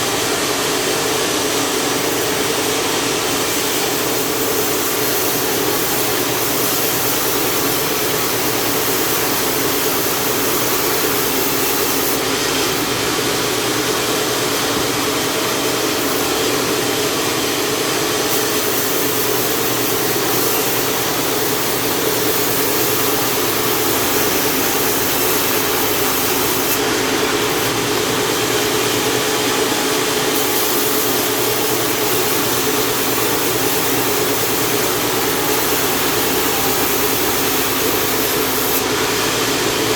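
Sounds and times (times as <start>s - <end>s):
saw ripping through log: 1.5s - 39.9s.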